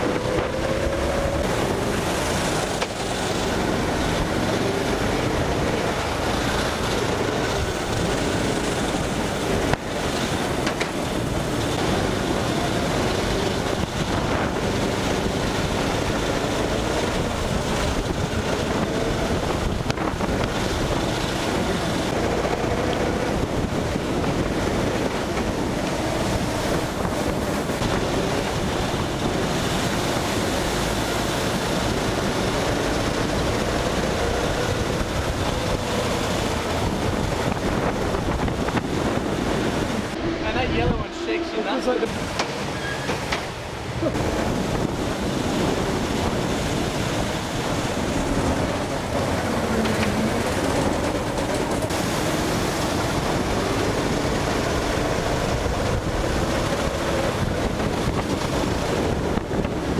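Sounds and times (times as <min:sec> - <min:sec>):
go-kart engines running hard: 0:00.0 - 0:59.9
wind rushing over microphone: 0:00.0 - 0:59.9.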